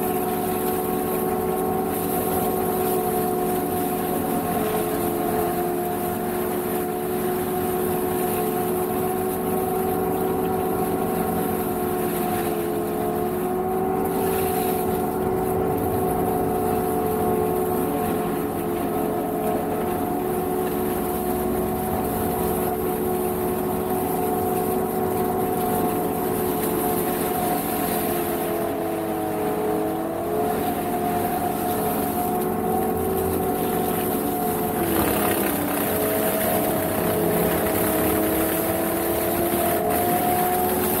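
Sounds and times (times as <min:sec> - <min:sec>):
boom mower engine humming: 0:00.0 - 0:41.0
mowing head shredding grass: 0:00.0 - 0:41.0.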